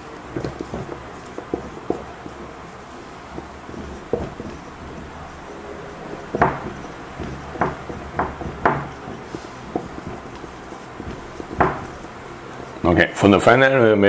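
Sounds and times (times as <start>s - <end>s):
marker scratching on whiteboard: 0.3s - 13.0s.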